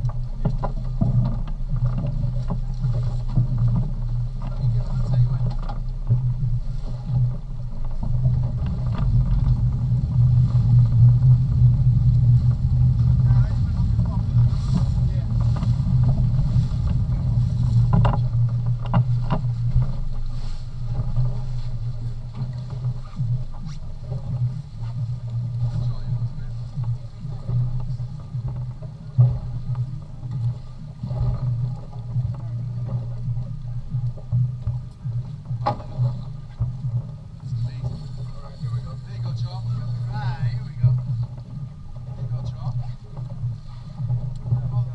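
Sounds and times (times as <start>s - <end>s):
boat engine droning: 0.0s - 44.9s
water noise: 0.0s - 44.9s.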